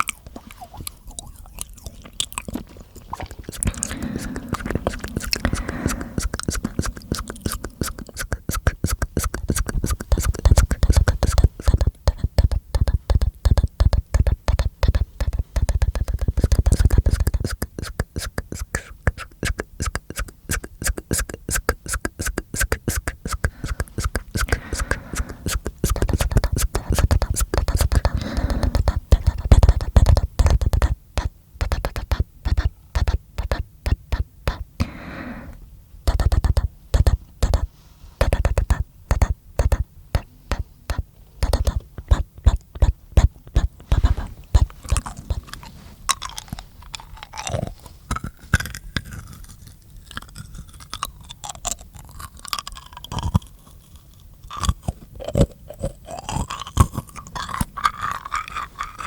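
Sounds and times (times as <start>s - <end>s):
mouth clicks and pops: 0.0s - 59.0s.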